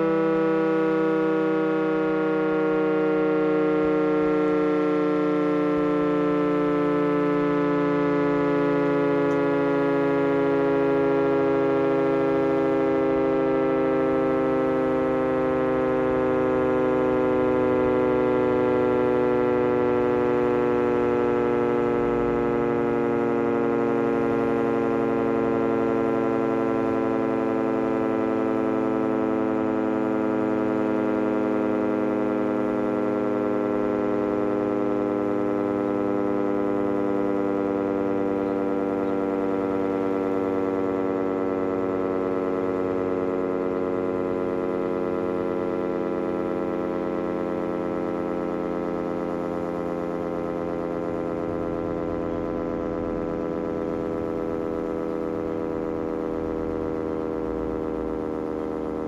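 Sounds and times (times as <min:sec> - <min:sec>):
siren wailing with layered tones: 0:00.0 - 0:59.0.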